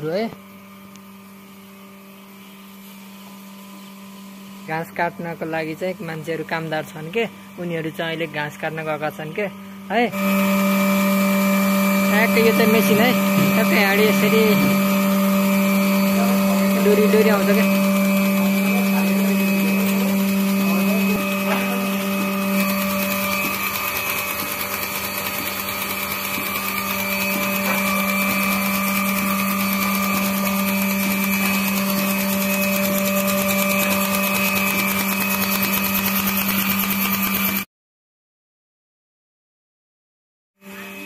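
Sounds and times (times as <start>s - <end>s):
vacuum pump motor humming and hissing: 0.0s - 37.7s, 40.6s - 41.0s.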